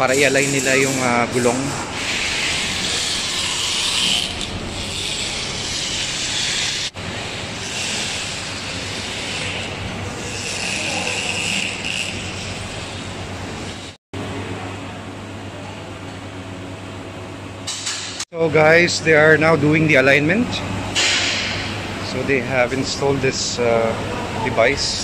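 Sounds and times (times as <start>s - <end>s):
rushing hissing workshop noise: 0.0s - 14.0s, 17.7s - 25.0s.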